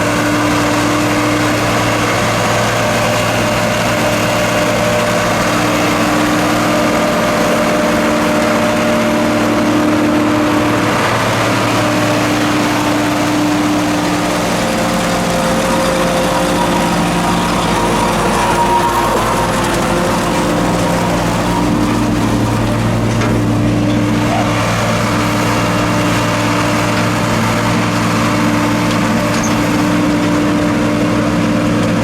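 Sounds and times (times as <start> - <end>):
forage harvester chopping corn: 0.0 - 32.0
tractor diesel engine running: 0.0 - 32.0.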